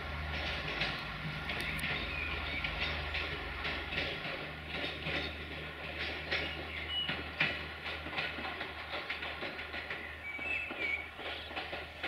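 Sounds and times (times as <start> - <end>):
low train hum: 0.0 - 12.0
train wheels clicking over rail joints: 0.0 - 12.0.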